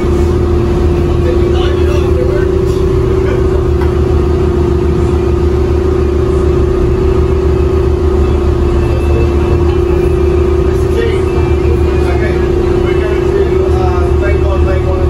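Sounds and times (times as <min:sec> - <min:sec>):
boat engine low drone: 0:00.0 - 0:15.0
mid-pitched hum: 0:00.0 - 0:15.0.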